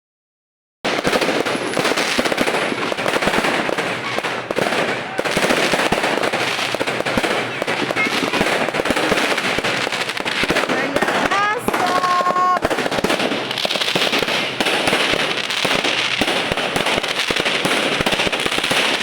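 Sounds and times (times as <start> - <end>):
fireworks crackling: 0.8 - 19.0.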